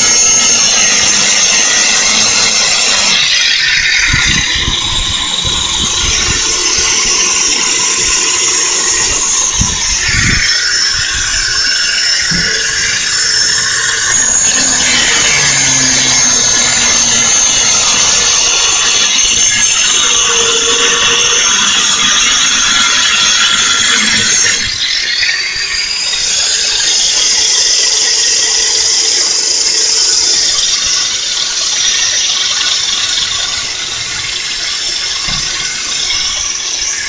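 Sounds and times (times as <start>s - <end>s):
angle grinder grinding metal: 0.0s - 37.0s.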